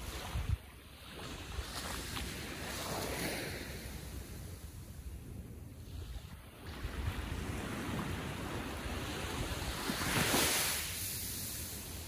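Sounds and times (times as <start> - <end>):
small waves lapping on beach: 0.0 - 12.0.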